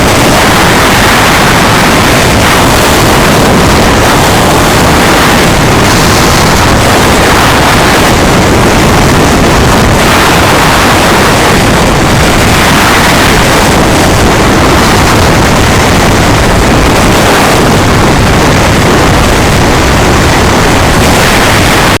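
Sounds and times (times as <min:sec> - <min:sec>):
vehicle rumble: 0:00.0 - 0:22.0
wind buffeting microphone: 0:00.0 - 0:22.0.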